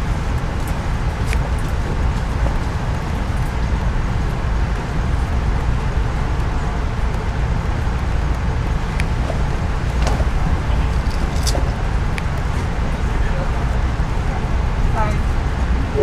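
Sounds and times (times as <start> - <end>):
train rumbling inside coach: 0.0 - 16.0.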